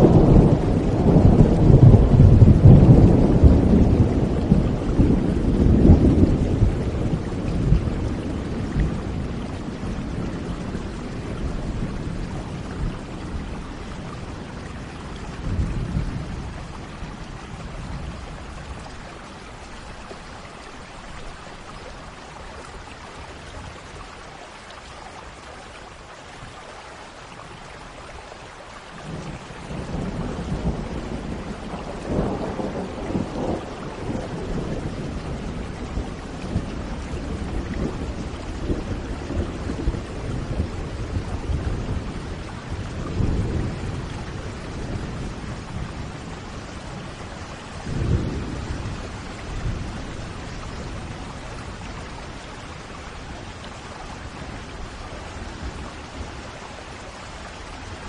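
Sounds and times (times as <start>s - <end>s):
thunder rumbling: 0.0s - 19.7s, 29.0s - 57.0s
steady rain: 0.0s - 58.0s.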